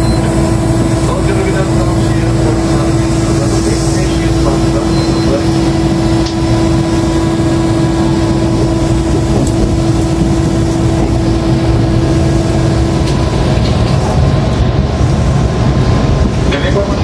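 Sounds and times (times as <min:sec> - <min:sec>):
electric train running: 0:00.0 - 0:17.0
strong electric hum: 0:00.0 - 0:17.0.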